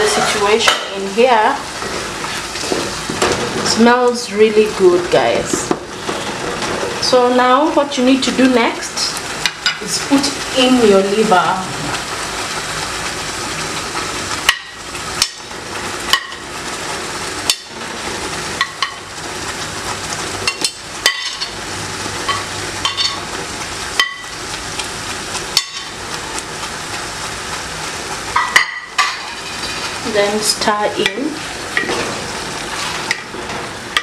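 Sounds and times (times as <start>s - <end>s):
sauce sizzling: 0.0s - 34.0s.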